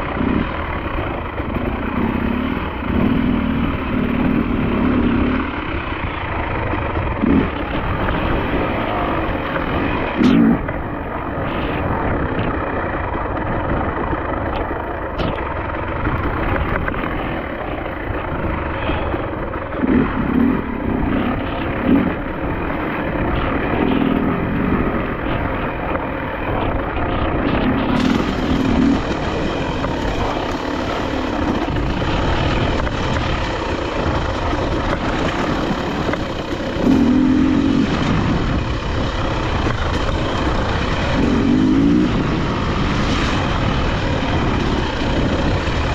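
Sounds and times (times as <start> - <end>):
dirt bike engine revving: 0.0 - 45.9
wind noise on microphone: 0.0 - 45.9.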